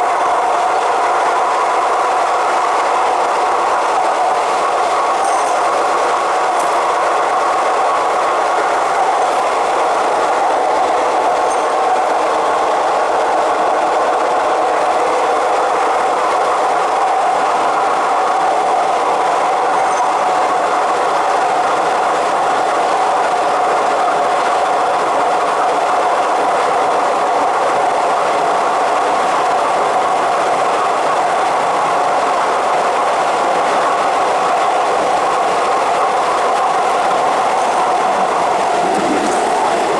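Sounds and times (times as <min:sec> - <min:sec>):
train wheels on rail: 0:00.0 - 0:39.9.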